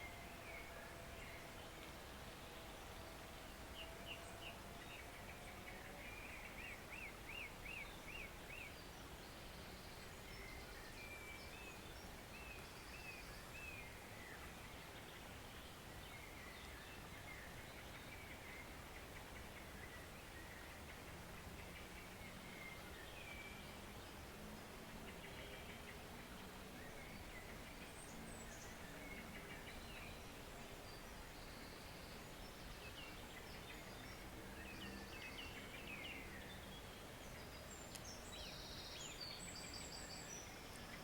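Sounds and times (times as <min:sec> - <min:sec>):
woodland stream rushing: 0:00.0 - 0:41.0.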